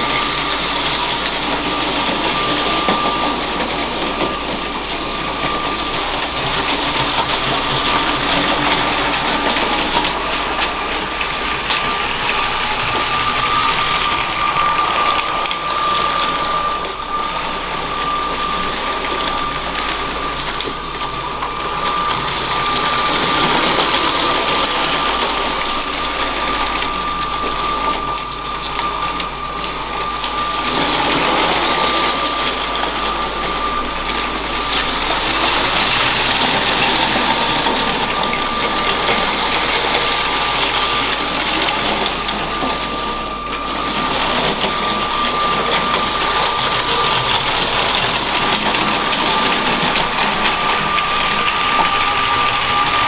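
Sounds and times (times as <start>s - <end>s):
small electric motor whine: 0.0s - 53.0s
toy train wheels rattling: 0.0s - 53.0s.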